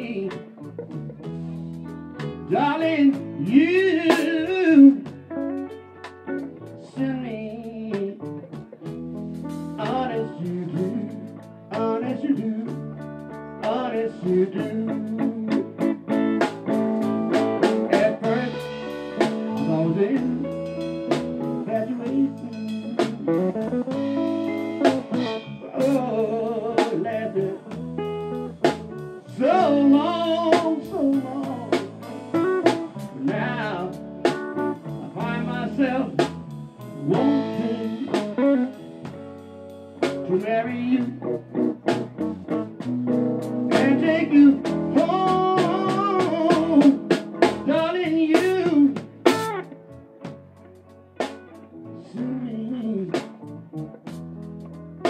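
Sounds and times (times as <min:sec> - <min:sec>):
blues band playing: 0:00.0 - 0:55.0
electric guitar lead: 0:00.0 - 0:55.0.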